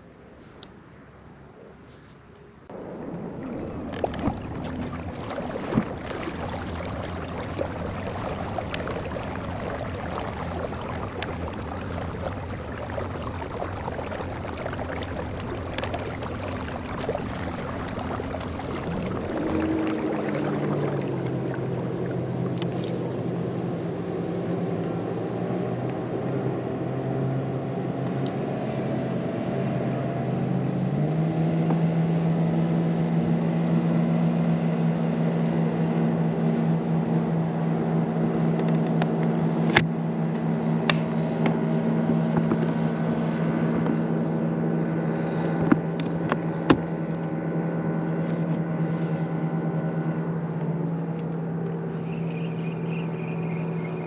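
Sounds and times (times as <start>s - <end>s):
boat motor running: 2.7s - 54.0s.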